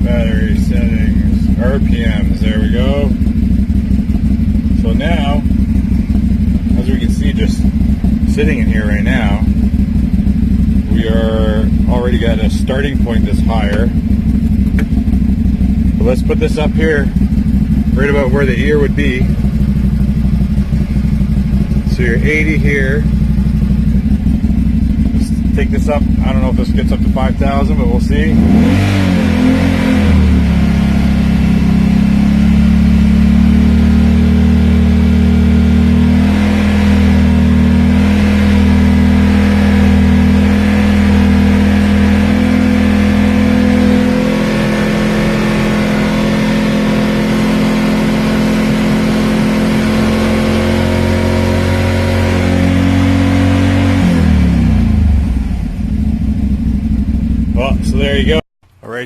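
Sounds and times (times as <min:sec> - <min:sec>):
loud engine revving at high rpm: 0:00.0 - 0:58.4.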